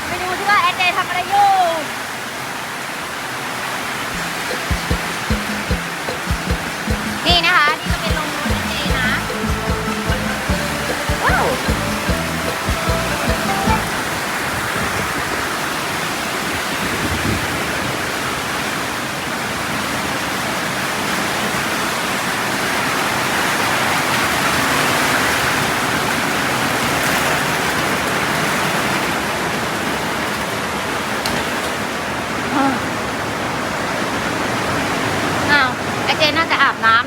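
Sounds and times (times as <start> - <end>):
heavy rain pouring: 0.0 - 36.2.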